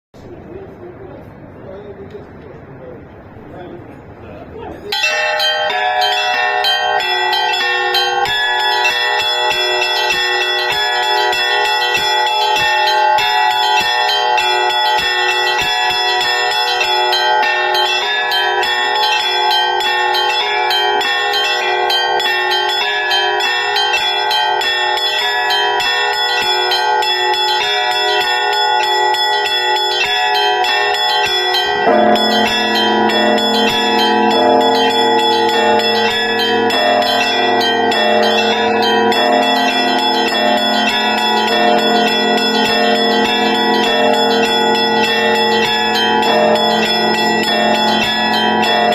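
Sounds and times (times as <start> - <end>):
church bells pealing: 0.2 - 48.9.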